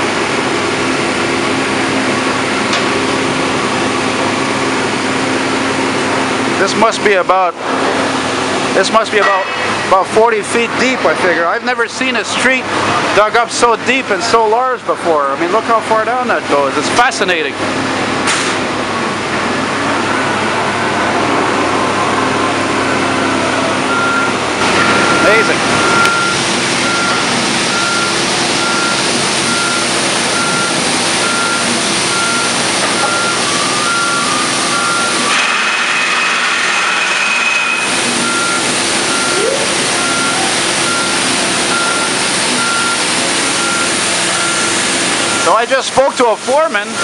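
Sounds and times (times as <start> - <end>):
construction machinery engine drone: 0.0 - 47.0.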